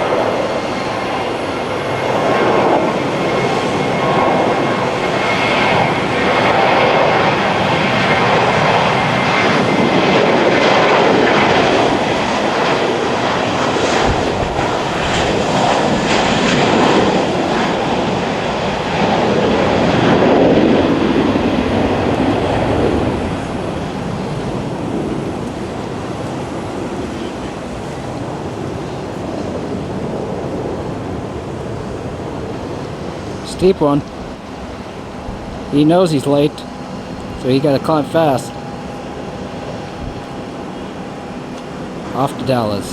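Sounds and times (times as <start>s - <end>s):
jet engines roaring at takeoff: 0.0s - 42.9s.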